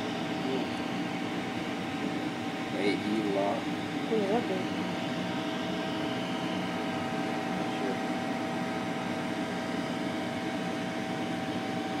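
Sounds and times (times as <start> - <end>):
faint whine: 0.0 - 12.0
mechanical hum: 0.0 - 12.0.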